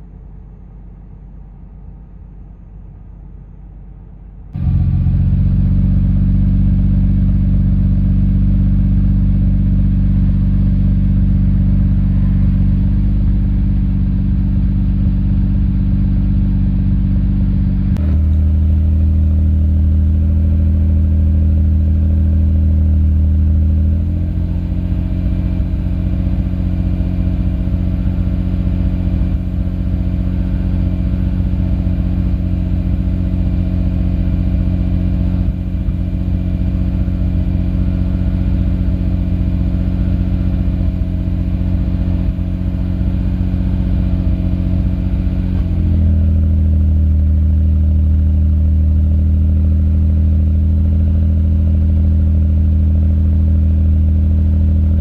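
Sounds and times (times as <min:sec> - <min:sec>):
car engine idling: 0:04.6 - 0:55.0.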